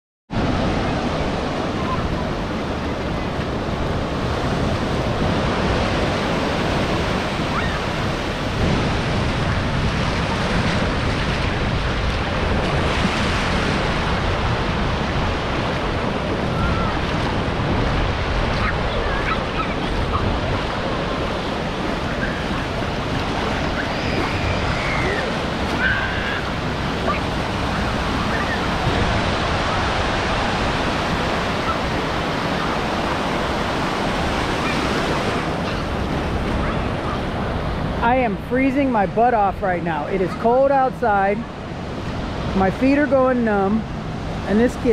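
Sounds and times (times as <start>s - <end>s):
waves breaking: 0.3s - 44.9s
wind buffeting microphone: 0.3s - 44.9s.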